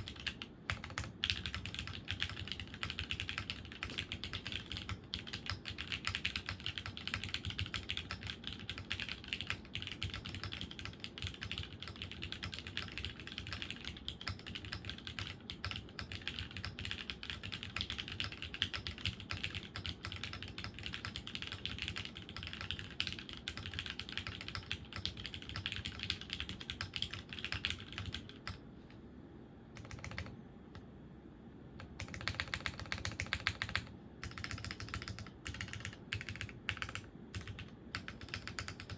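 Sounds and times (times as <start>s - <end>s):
fast typing on mechanical keyboard: 0.0s - 28.6s, 29.8s - 30.3s, 31.8s - 38.9s.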